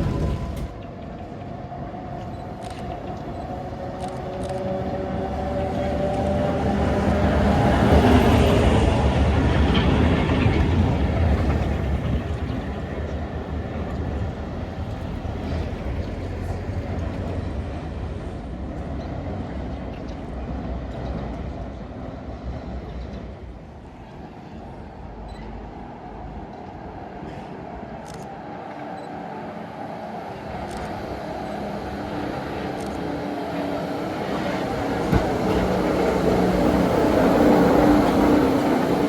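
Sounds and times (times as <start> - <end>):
tram rumbling along track: 0.0 - 39.0.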